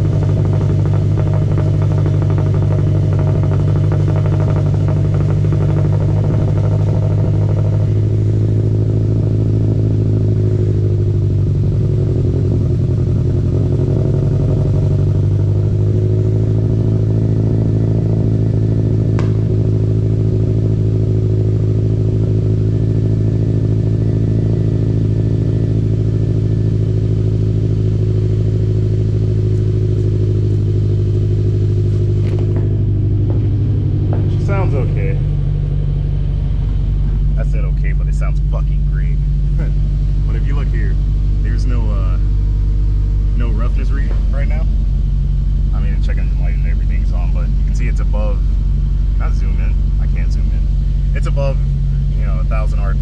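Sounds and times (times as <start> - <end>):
car engine idling roughly: 0.0 - 53.0.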